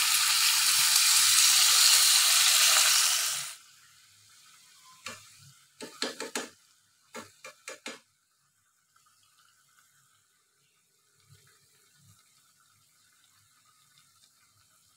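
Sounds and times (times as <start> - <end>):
water sizzling in a hot pan: 0.0 - 14.9.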